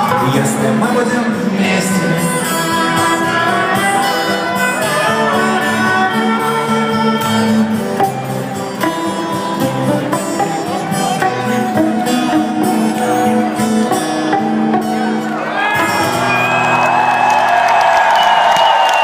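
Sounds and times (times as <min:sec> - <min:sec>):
rock band playing instrumental: 0:00.0 - 0:17.4.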